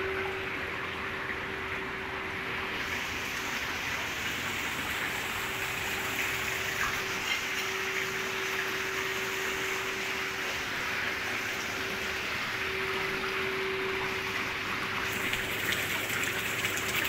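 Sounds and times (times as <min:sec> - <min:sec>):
pool water churning and splashing: 0:00.0 - 0:17.0
steady hum: 0:00.0 - 0:17.0.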